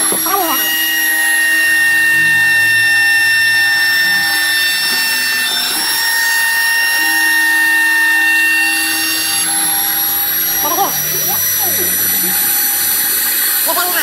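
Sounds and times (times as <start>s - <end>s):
cnc router whining: 0.0s - 14.0s
motor tones shifting pitch: 0.0s - 14.0s.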